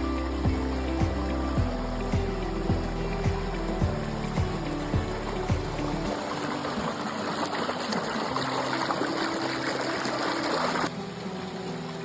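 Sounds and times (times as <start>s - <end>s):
soft background music: 0.0s - 12.0s
stream water rushing: 0.0s - 12.0s.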